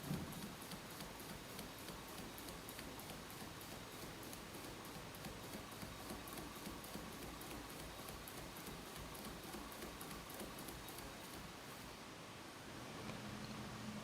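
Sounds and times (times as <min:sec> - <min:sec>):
hot-air engine fan ticking: 0:00.0 - 0:11.9.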